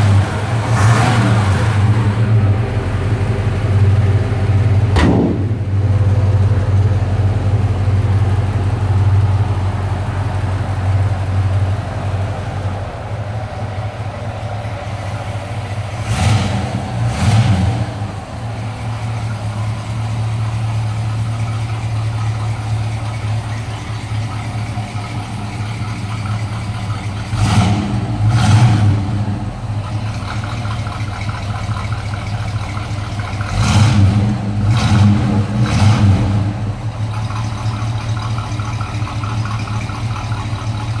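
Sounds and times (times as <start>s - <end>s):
truck engine idling and revving: 0.0s - 41.0s.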